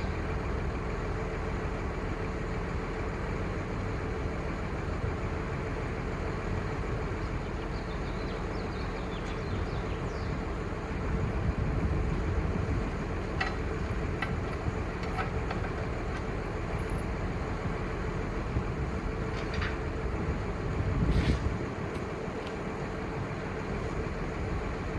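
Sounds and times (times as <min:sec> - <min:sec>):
diesel truck engine running: 0:00.0 - 0:24.9.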